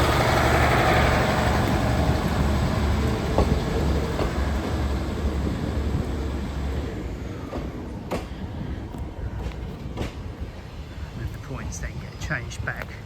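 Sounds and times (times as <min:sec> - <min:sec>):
train wheels clicking over points: 0:00.0 - 0:11.1
diesel train engine rumbling: 0:00.0 - 0:13.0.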